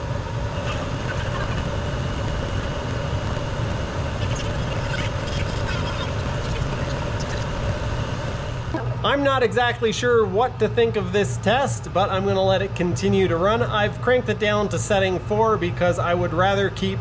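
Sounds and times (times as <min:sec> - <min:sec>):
heater fan and burner hum: 0:00.0 - 0:17.0.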